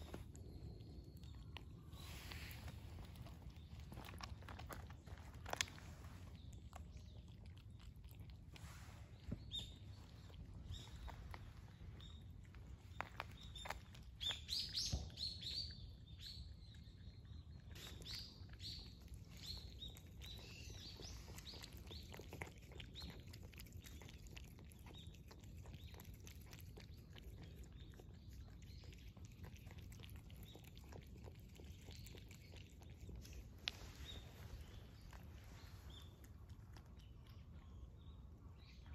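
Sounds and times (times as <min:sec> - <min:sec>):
cats lapping milk: 0:00.0 - 0:38.9
small birds chirping: 0:00.0 - 0:38.9.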